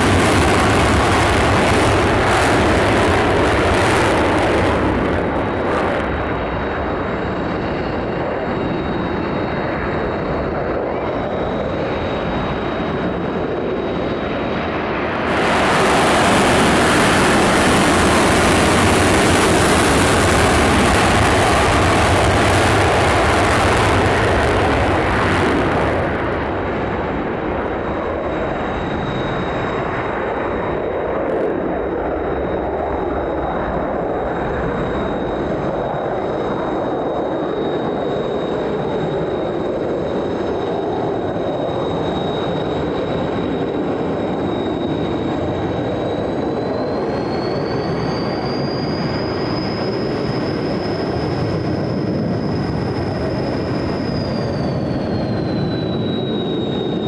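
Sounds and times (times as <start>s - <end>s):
jet engines roaring on takeoff: 0.0s - 57.0s.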